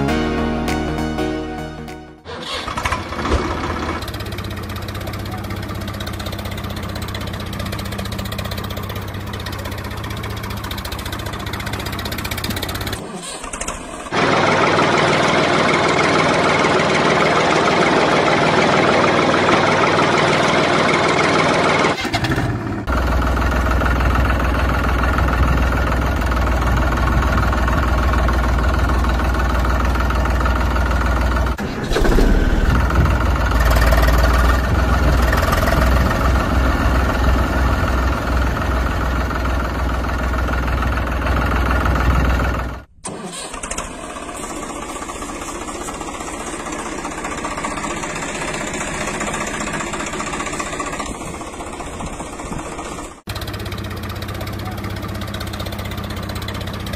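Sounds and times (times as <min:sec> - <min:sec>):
tractor engine throbbing: 0:00.0 - 0:56.9.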